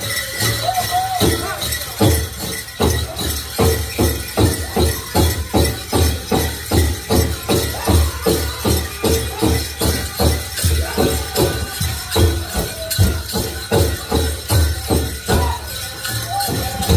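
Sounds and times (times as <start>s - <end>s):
bells jingling: 0.0s - 16.9s
people singing: 0.0s - 16.9s
big drum beating: 1.3s - 15.7s.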